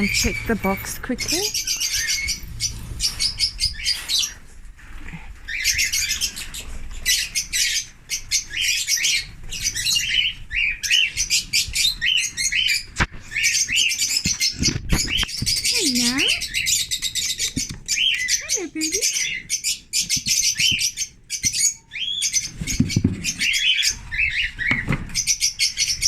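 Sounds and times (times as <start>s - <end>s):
parrots chirping: 0.0s - 4.4s, 5.4s - 26.0s.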